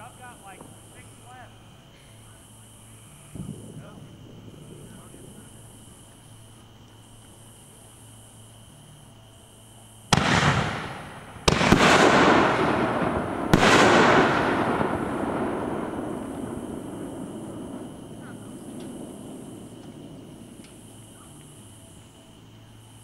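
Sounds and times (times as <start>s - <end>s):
fireworks bursting: 0.0s - 8.5s, 9.4s - 23.0s.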